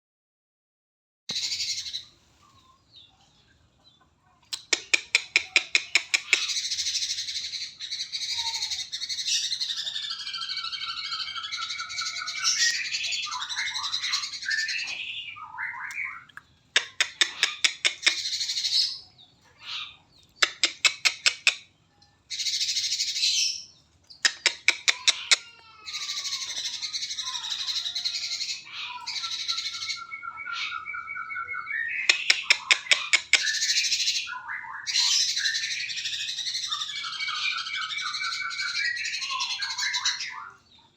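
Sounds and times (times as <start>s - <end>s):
bird chattering song: 1.3s - 40.9s.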